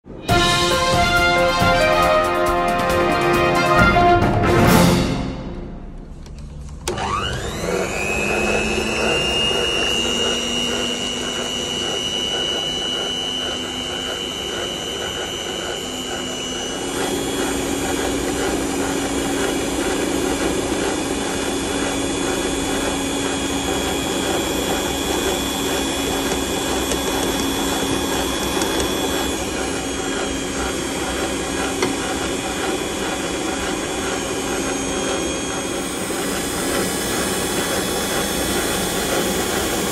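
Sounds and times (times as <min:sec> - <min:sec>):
electric mixer whirring: 0:06.8 - 0:39.9.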